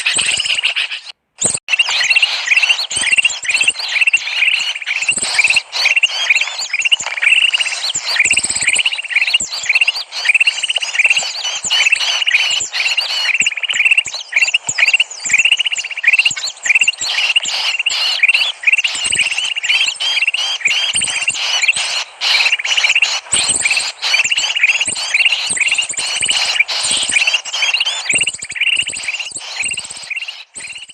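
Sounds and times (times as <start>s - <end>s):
small birds chattering: 0.0s - 30.9s.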